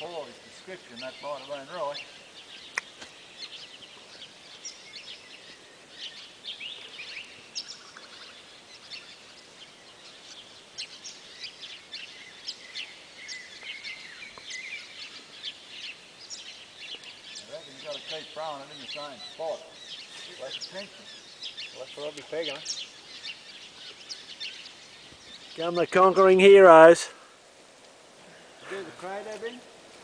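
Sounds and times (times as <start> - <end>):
birds chirping: 0.0 - 30.0
faint background hiss: 0.0 - 30.0.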